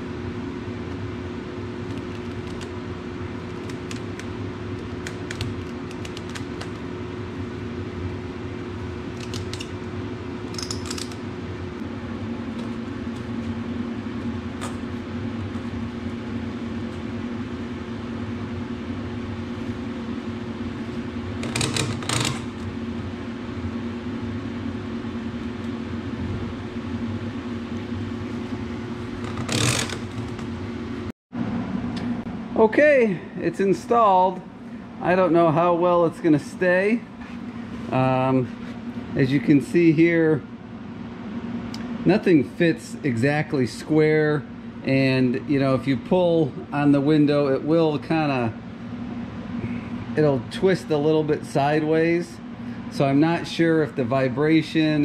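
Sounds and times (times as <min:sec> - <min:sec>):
mechanical hum with low drone: 0:00.0 - 0:55.0.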